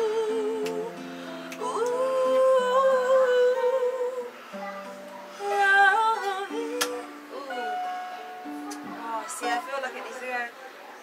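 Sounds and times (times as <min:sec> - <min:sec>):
woman singing wordless melody: 0:00.0 - 0:09.8
acoustic guitar: 0:00.0 - 0:10.9.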